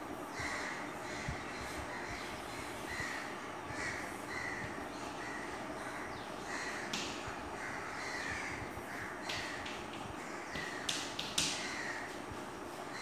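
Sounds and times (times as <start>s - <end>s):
crows cawing: 0.3s - 13.0s.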